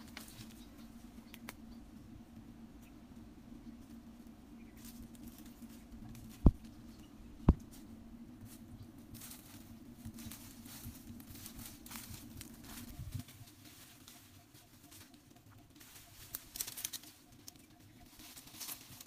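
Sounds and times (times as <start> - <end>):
rustling of leaves and twigs: 0.0 - 19.0.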